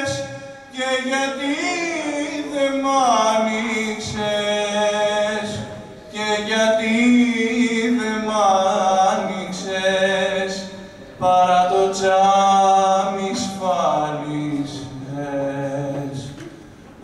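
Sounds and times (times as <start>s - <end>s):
man singing a cappella: 0.0s - 16.5s.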